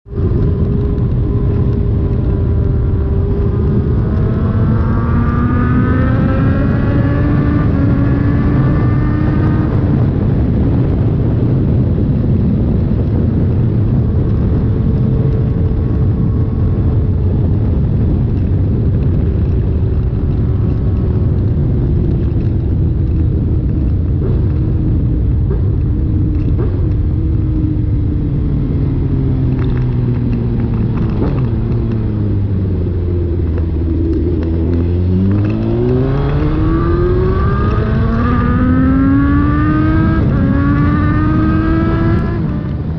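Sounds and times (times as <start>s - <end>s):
motorcycle engine deep rumble: 0.0s - 42.9s.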